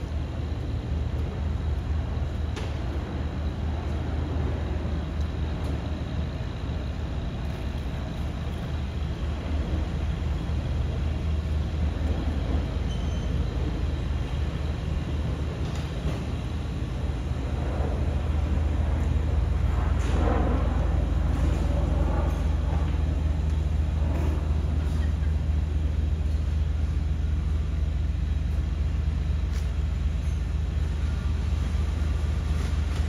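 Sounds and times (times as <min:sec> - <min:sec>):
passing vehicles rumbling: 0:00.0 - 0:33.0.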